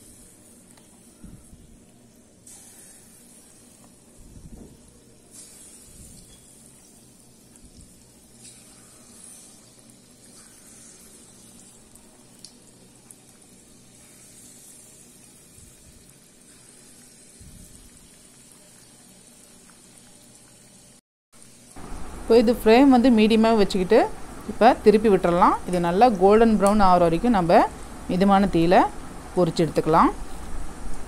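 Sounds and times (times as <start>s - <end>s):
batter sizzling in hot oil: 0.0s - 28.2s.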